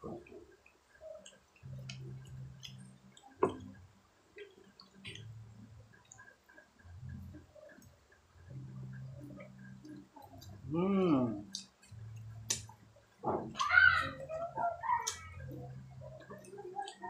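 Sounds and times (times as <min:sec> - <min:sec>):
wet chewing and lip-smacking: 0:00.1 - 0:10.8, 0:11.4 - 0:17.0.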